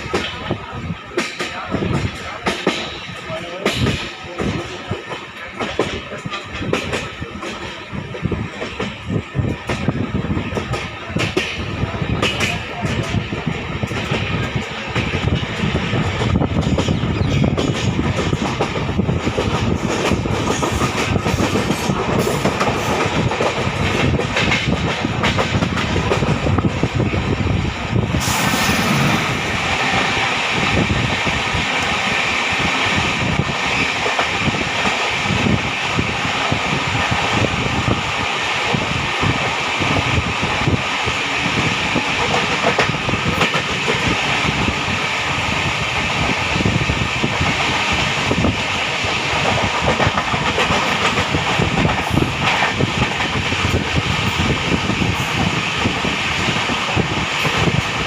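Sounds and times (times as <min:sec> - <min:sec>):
train wheel and rail rumble: 0:00.0 - 0:58.0.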